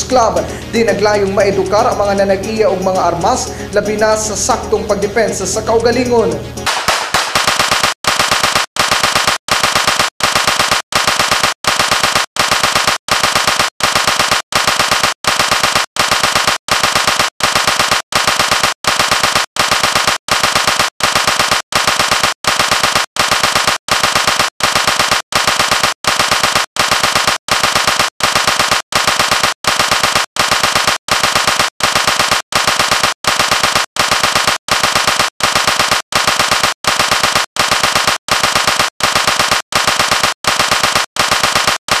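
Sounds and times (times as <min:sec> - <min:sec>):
rapid gunshot-like cracks: 0:06.6 - 0:42.0.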